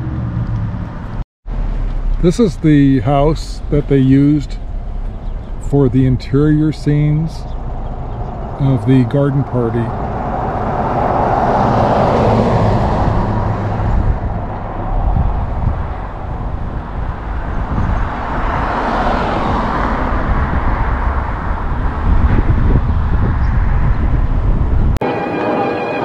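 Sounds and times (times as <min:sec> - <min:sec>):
steady low traffic rumble: 0:00.0 - 0:25.0
cars passing: 0:00.0 - 0:26.0.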